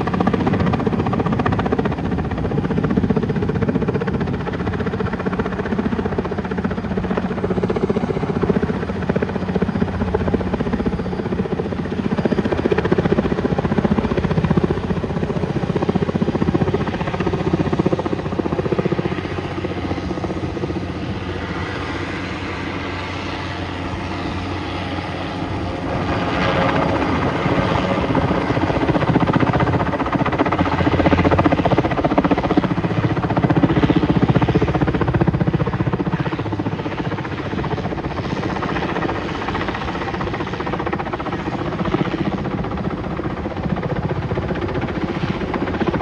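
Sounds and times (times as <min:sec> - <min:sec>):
helicopter engine drone: 0:00.0 - 0:46.0
helicopter rotor beat: 0:00.0 - 0:46.0.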